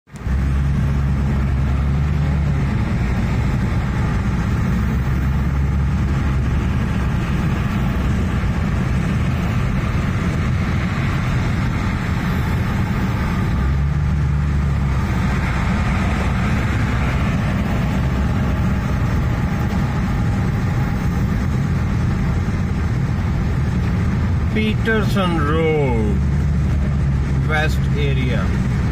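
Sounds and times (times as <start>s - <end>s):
car cabin road and engine drone: 0.0s - 28.9s.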